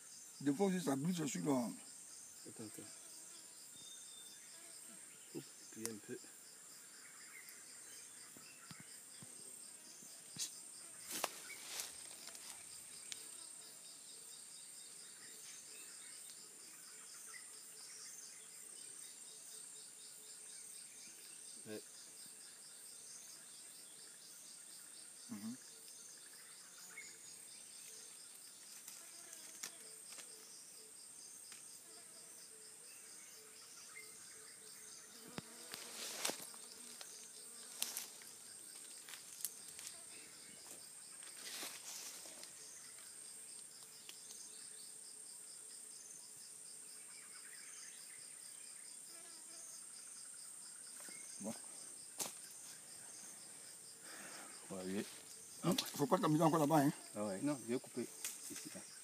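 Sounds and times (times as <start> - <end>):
insect chorus trilling: 0.0 - 59.0
pulsing insect chirp: 0.0 - 59.0.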